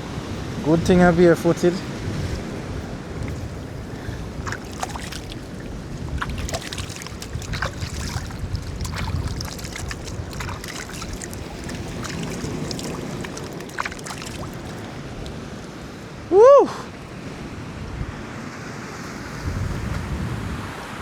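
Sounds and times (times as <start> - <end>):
ocean swell washing over rocks: 0.0 - 21.0
wind rumbling on microphone: 0.0 - 21.0.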